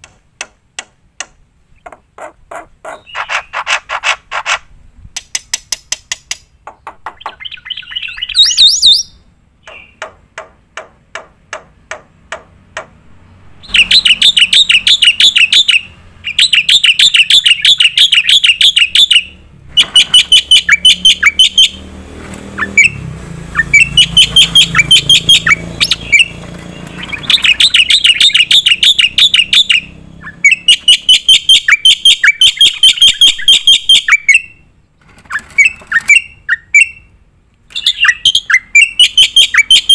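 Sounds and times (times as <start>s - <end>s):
myna bird singing: 1.7s - 4.0s, 6.1s - 39.9s.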